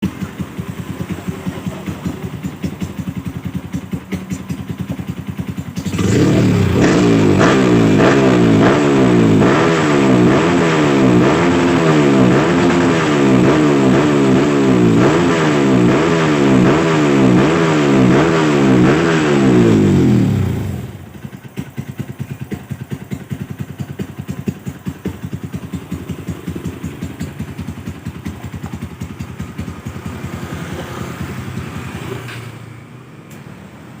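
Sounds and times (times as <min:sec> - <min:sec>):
motorcycle engine idling: 0:00.0 - 0:32.1
motorcycle engine revving: 0:00.0 - 0:32.8.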